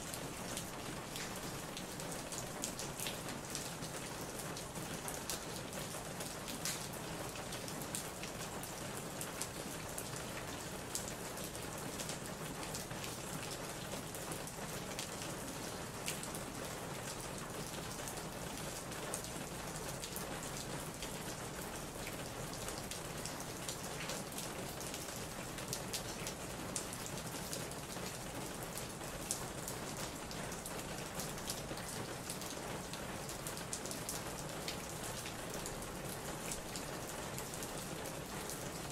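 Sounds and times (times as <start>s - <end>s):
steady rain with drop ticks: 0.0s - 38.9s.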